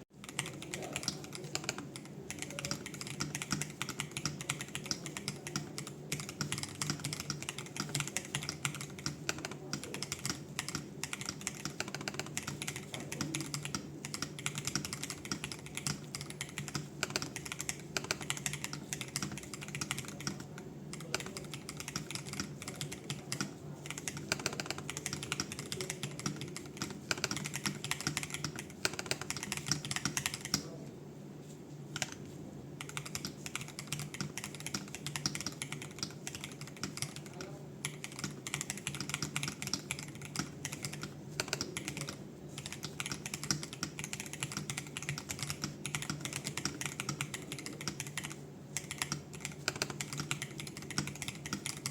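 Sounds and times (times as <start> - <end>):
fast keyboard typing: 0.2 - 30.8, 31.9 - 51.9.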